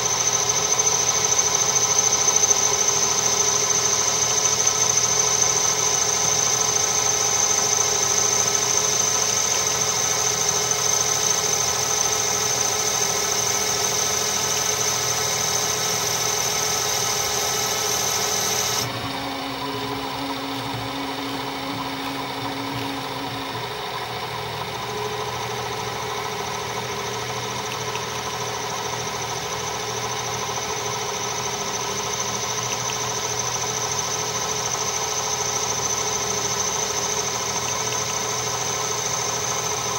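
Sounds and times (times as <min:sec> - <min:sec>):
high cutting whine: 0:00.0 - 0:39.9
lathe machine hum: 0:00.0 - 0:39.9.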